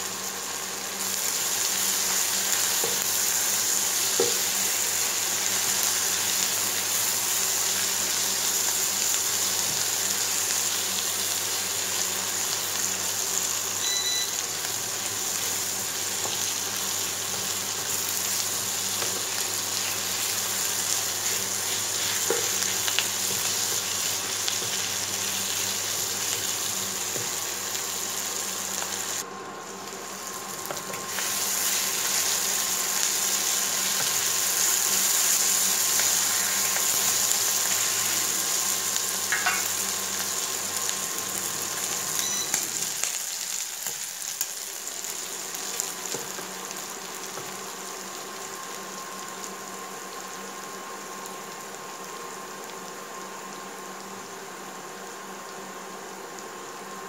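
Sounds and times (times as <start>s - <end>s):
food sizzling in frying pan: 0.0s - 57.0s.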